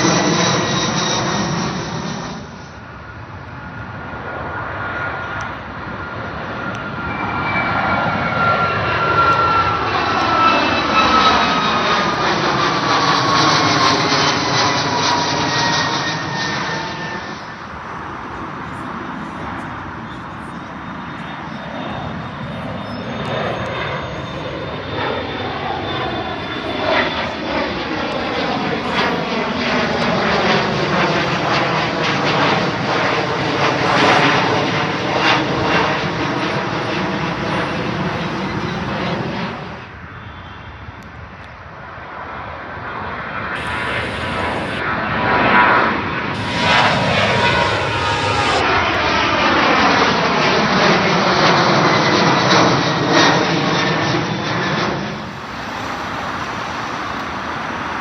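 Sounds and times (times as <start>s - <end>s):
jet airliner passing overhead: 0.0s - 58.0s
jet departing: 0.0s - 58.0s.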